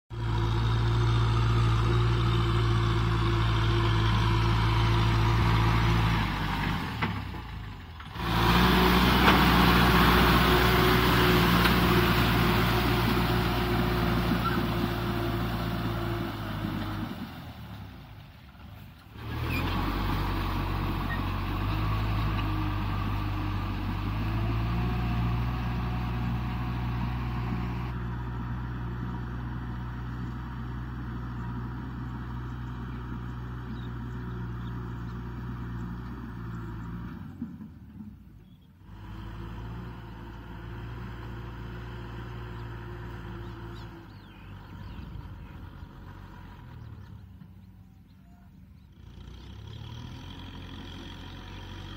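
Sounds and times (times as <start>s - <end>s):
tractor diesel engine under load: 0.0s - 51.9s.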